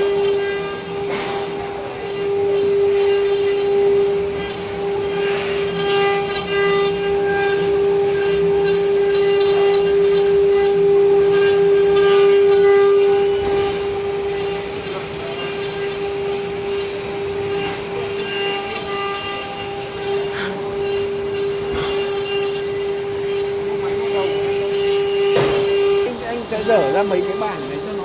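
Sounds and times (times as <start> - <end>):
spindle whining: 0.0 - 28.0
wood cutting noise: 0.0 - 28.0.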